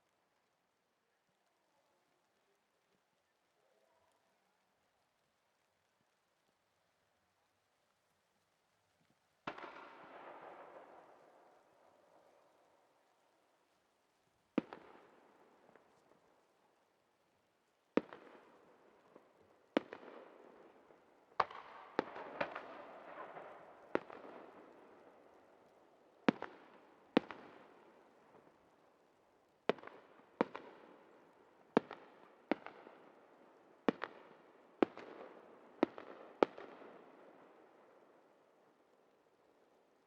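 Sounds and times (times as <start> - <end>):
firework crackle: 1.6 - 38.9.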